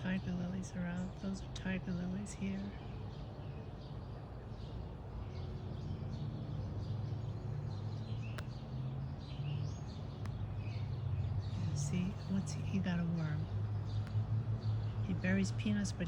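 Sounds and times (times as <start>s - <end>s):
small birds chirping faintly: 0.0s - 16.0s
steady low hum: 0.0s - 16.0s.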